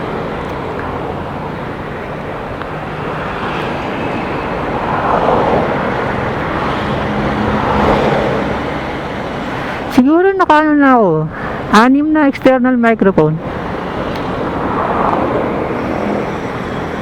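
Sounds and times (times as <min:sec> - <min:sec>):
road and wind rush: 0:00.0 - 0:17.0.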